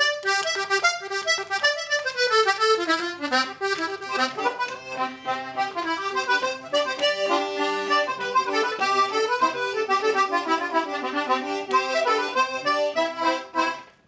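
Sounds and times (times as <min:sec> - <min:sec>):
toy accordion playing a tune: 0:00.0 - 0:14.0.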